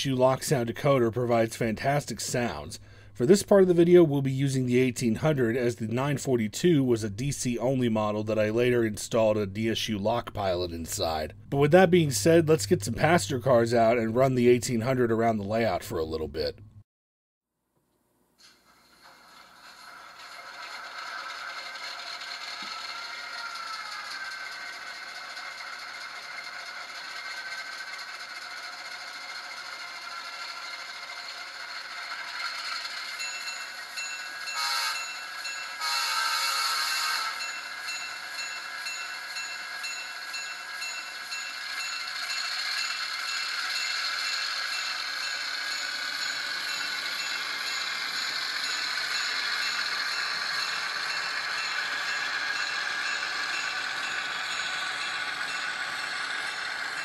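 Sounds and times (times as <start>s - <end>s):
diesel locomotive engine: 0.0s - 16.8s, 19.0s - 57.0s.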